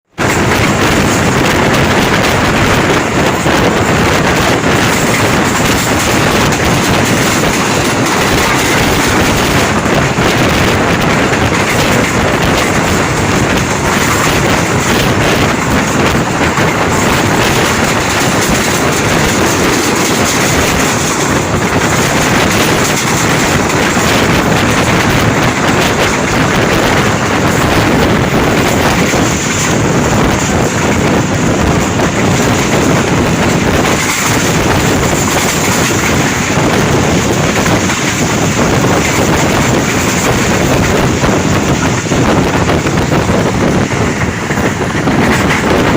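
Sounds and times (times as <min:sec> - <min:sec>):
train wheels on rails: 0:00.0 - 0:45.9
wind noise on microphone: 0:00.0 - 0:45.9.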